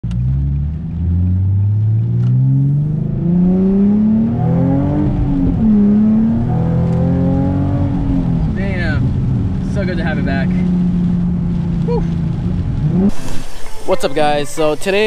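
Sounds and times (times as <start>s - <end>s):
car engine accelerating hard: 0.0s - 13.9s.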